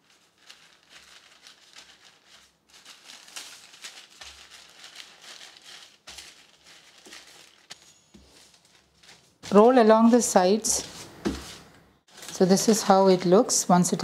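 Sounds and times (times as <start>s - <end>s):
parchment paper rustling: 0.0s - 13.5s.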